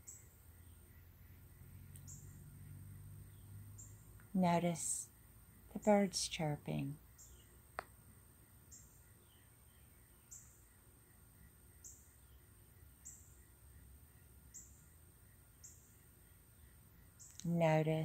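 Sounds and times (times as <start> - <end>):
birds chirping: 0.0 - 18.0
faint low hum: 0.0 - 18.0.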